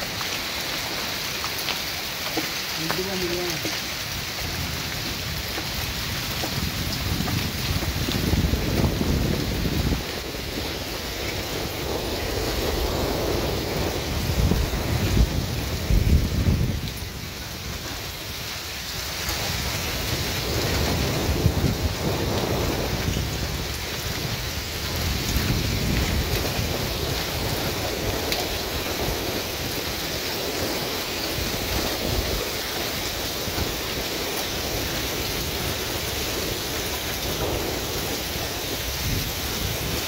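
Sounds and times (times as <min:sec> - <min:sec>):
heavy rain and hail: 0:00.0 - 0:40.0.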